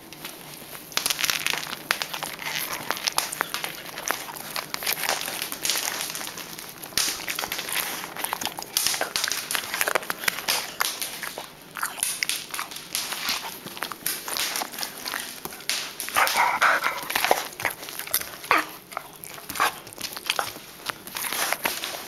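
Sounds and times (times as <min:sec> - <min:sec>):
dog chewing and crunching treat: 0:00.0 - 0:22.0
dog claws clicking on tile: 0:00.9 - 0:22.0.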